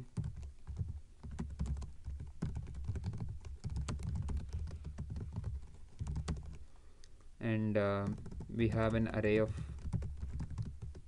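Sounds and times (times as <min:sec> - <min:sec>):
computer keyboard typing: 0:00.0 - 0:06.6, 0:08.0 - 0:11.0.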